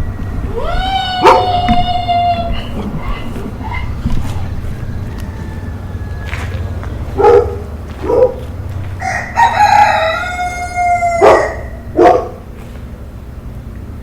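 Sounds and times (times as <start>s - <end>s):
rooster crowing: 0.0s - 12.4s
steady low rumble: 0.0s - 14.0s.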